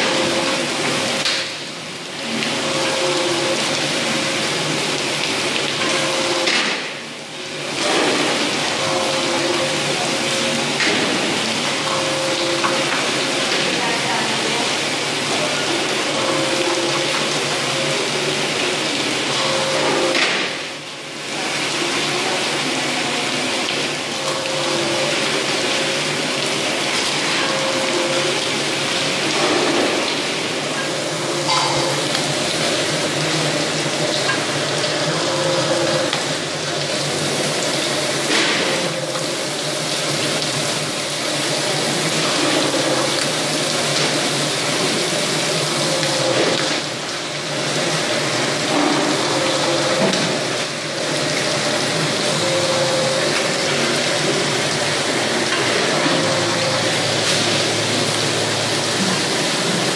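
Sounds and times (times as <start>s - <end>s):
machine hum: 0.0s - 59.9s
running water: 0.0s - 59.9s.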